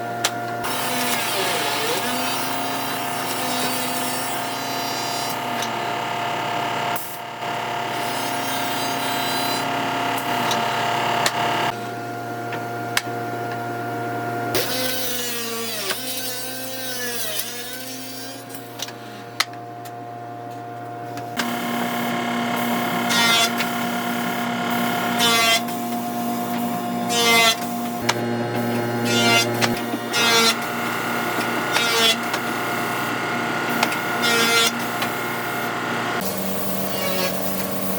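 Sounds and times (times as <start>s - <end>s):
woodworking machine motor hum: 0.1s - 13.6s, 20.8s - 37.9s.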